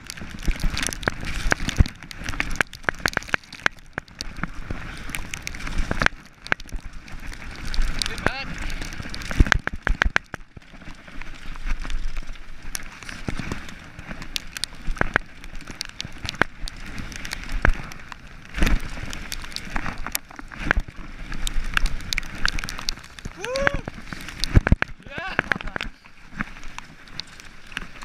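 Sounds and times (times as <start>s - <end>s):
bike clicking and rattling: 0.0s - 28.0s
bike tyres rolling on gravel: 0.0s - 28.0s.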